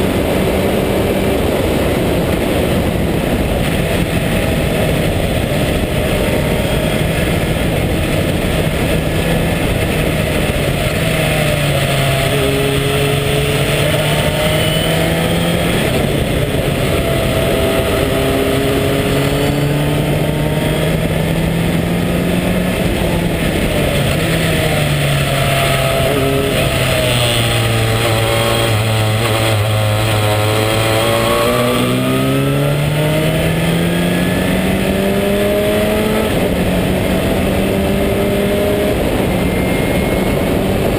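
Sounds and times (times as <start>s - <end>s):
race car engine revving: 0.0s - 40.9s
wind noise: 0.0s - 40.9s.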